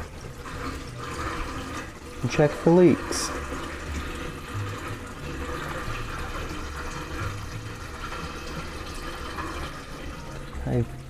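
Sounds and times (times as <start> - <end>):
water draining through pipe: 0.0 - 11.0.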